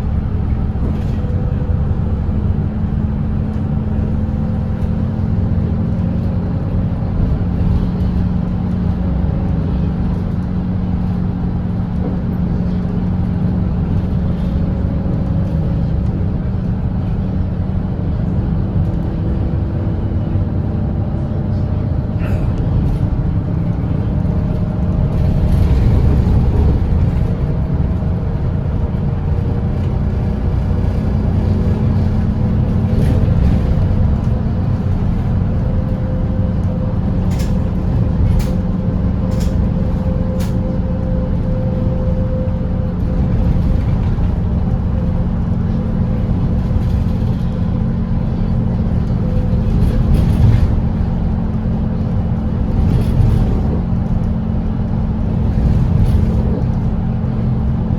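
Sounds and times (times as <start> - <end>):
bus engine drone: 0.0 - 57.9.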